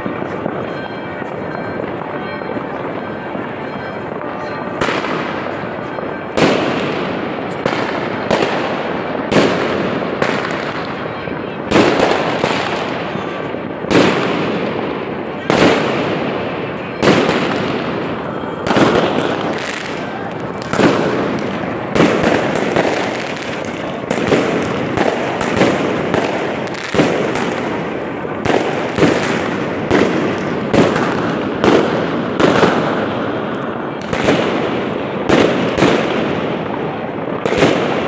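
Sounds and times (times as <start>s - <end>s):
din of fireworks: 0.0s - 38.0s
fireworks bangs with echo: 0.0s - 38.0s.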